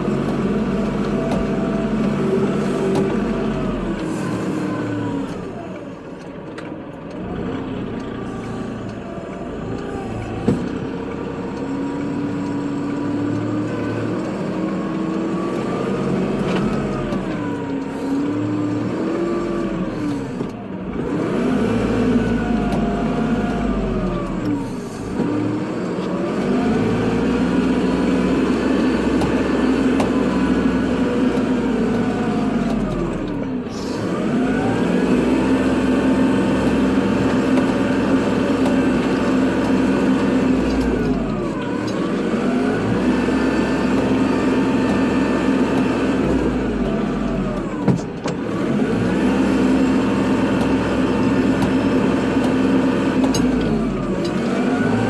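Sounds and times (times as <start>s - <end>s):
tractor diesel engine working: 0.0s - 55.0s.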